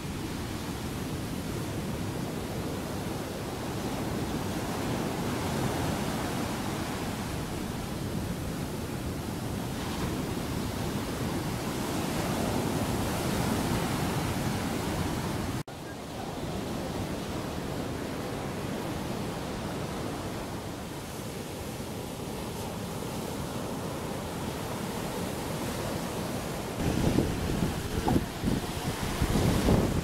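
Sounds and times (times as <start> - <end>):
surf breaking on a beach: 0.0 - 30.0.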